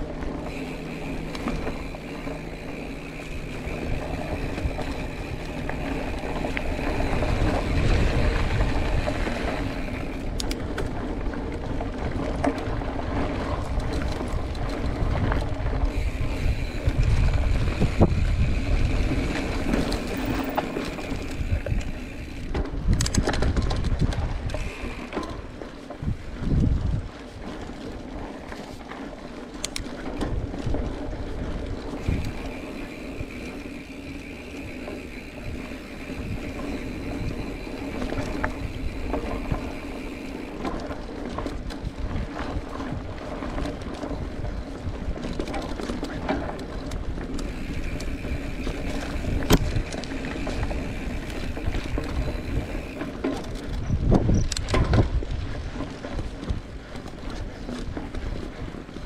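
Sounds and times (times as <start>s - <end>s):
wind on microphone: 0.0s - 27.6s, 30.1s - 59.0s
bike rattling and clicking: 0.0s - 59.0s
bike tyres on dirt: 0.0s - 59.0s.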